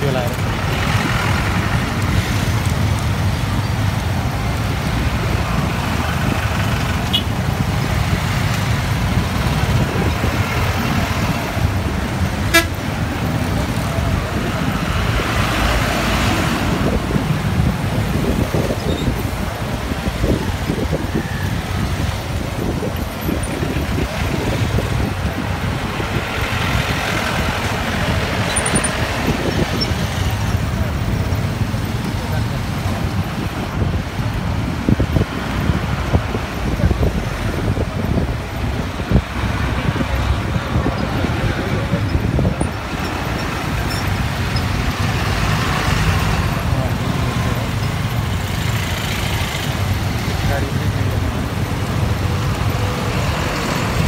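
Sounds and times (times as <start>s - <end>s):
passing traffic rumble: 0.0s - 54.0s.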